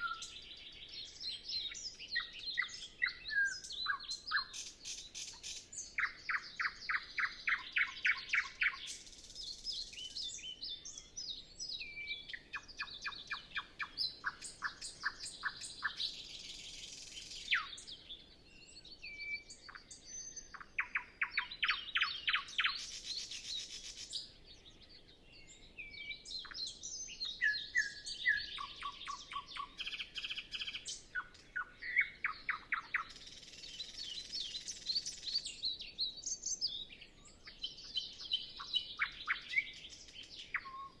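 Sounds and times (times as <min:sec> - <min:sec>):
nightingale singing: 0:00.0 - 0:41.0.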